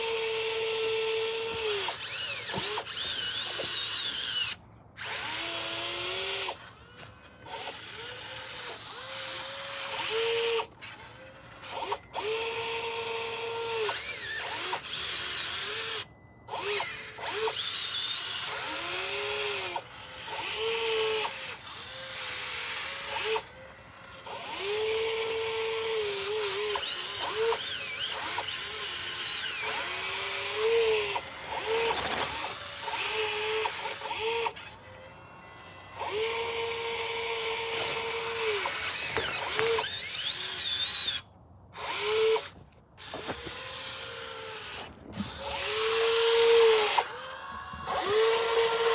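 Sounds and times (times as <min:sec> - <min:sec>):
small electric motor whining: 0:00.0 - 0:48.9.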